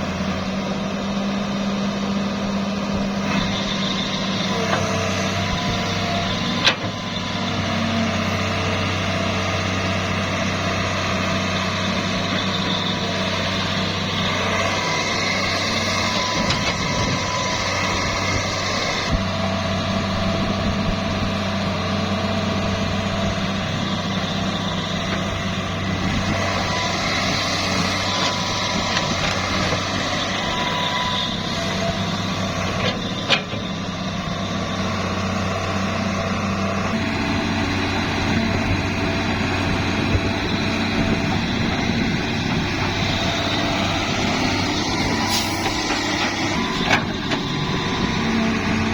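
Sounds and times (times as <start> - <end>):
construction machinery engine running: 0.0 - 48.9.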